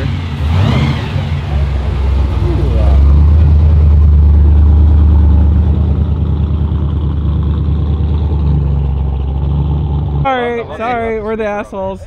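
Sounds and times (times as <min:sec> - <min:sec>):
car engine passing by: 0:00.0 - 0:10.3.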